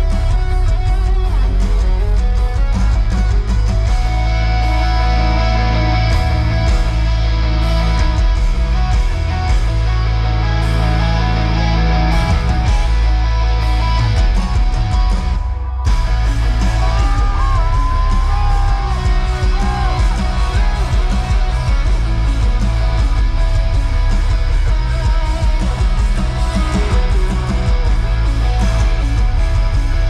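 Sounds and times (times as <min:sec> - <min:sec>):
electric guitar lead: 0:00.0 - 0:30.0
live rock music: 0:00.0 - 0:30.0.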